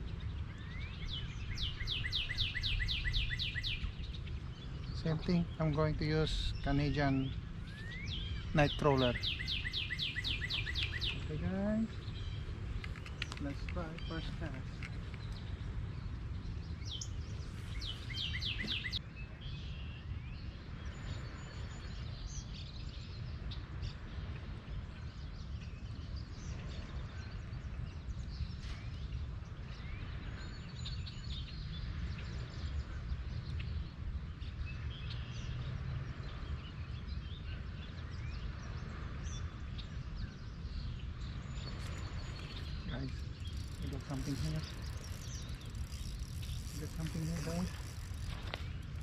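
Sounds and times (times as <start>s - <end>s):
wild birds chirping: 0.0s - 49.0s.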